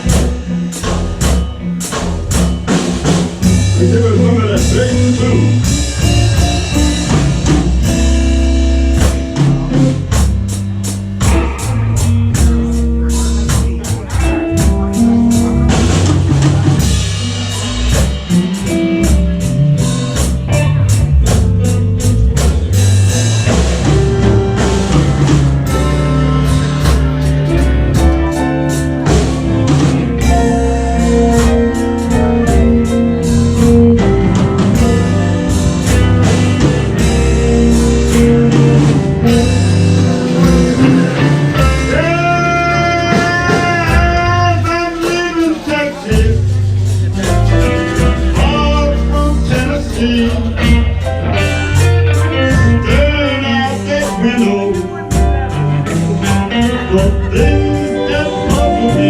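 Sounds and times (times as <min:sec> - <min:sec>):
blues band playing: 0:00.0 - 0:59.0
drum kit: 0:00.0 - 0:59.0
guitar: 0:00.0 - 0:59.0.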